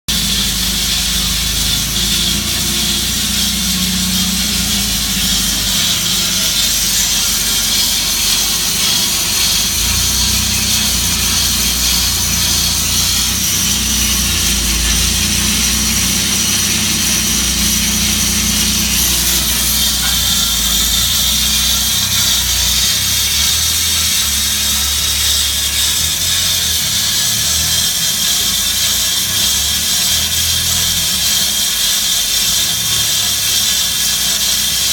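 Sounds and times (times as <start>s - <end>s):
low motor hum: 0.1s - 32.0s
band saw blade hissing: 0.1s - 34.9s.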